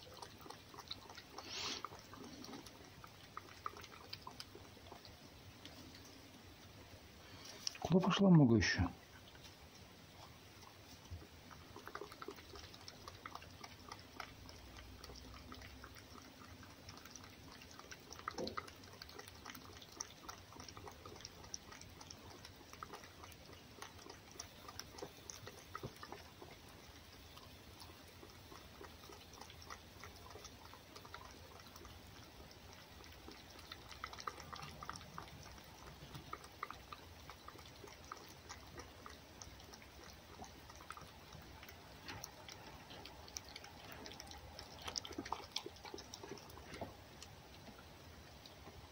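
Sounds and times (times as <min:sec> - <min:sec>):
fox lapping and chewing: 0:00.0 - 0:48.9.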